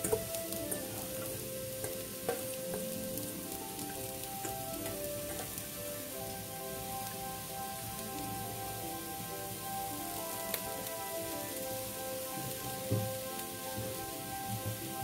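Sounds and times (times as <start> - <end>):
carrots sizzling in a pan: 0.0 - 15.0
soft background music: 0.0 - 15.0.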